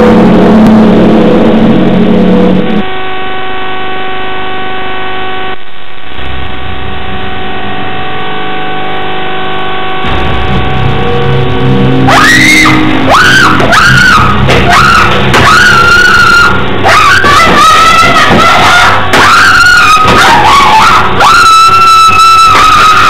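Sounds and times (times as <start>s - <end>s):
loud noisy rumble: 0.0s - 3.7s, 6.2s - 23.0s
synthetic horror drone: 0.0s - 5.0s, 6.2s - 23.0s.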